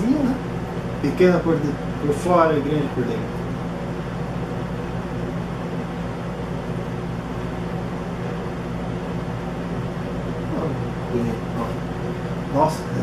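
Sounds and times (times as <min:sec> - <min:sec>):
low hum with hiss: 0:00.0 - 0:13.0.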